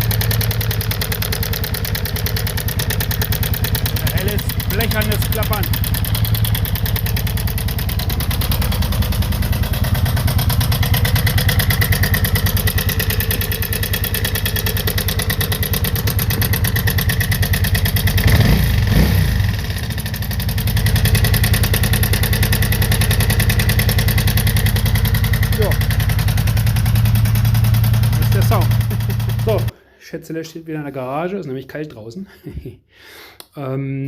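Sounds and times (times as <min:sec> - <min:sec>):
motorcycle engine idling with clatter: 0:00.0 - 0:29.7.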